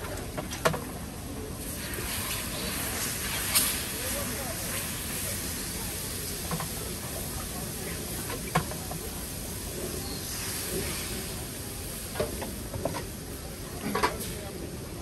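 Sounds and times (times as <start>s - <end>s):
batter sizzling on griddle: 1.6s - 13.6s.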